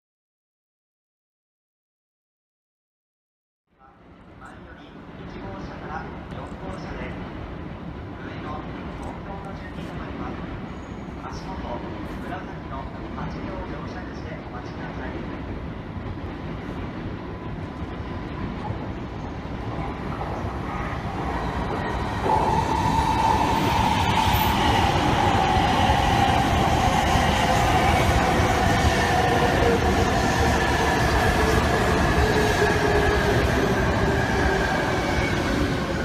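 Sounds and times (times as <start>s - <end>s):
train pulling into station: 3.8s - 36.0s.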